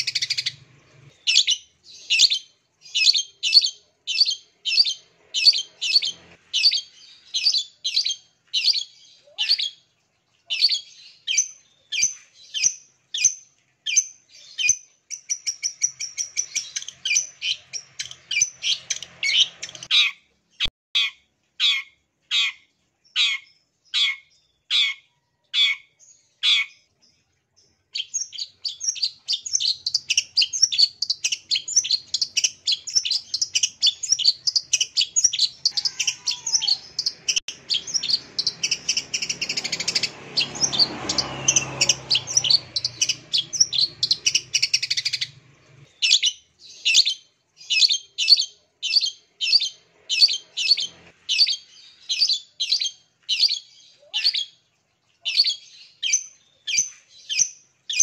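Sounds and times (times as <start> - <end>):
bird chattering song: 0.0 - 27.2, 27.9 - 54.6, 55.2 - 58.0.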